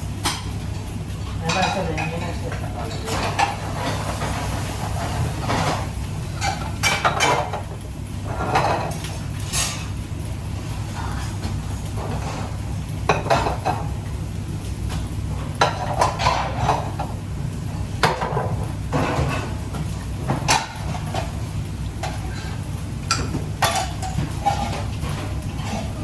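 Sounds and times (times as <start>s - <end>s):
utensils clinking against pots: 0.2s - 10.0s, 11.0s - 14.0s, 14.9s - 17.3s, 18.0s - 26.0s.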